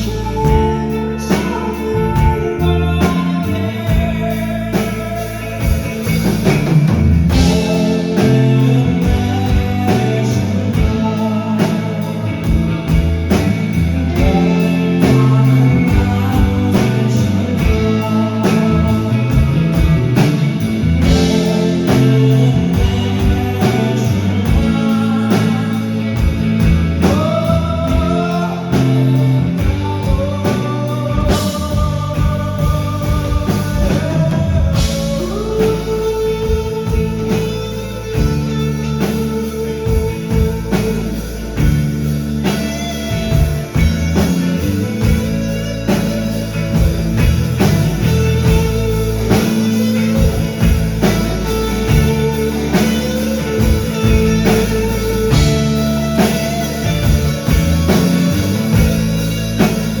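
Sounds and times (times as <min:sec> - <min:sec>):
drums beating: 0:00.0 - 1:00.0
live rock band playing: 0:00.0 - 1:00.0
person singing: 0:00.0 - 1:00.0.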